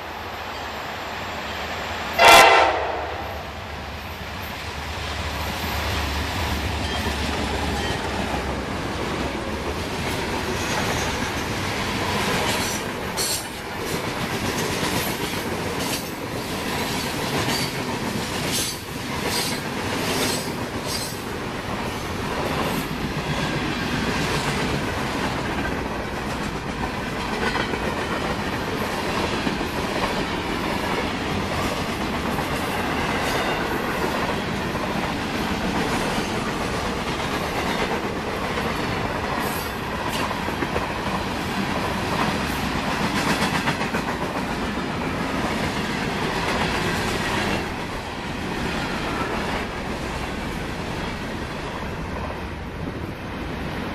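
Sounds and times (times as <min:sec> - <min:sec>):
freight train rolling past: 0:00.0 - 0:53.9.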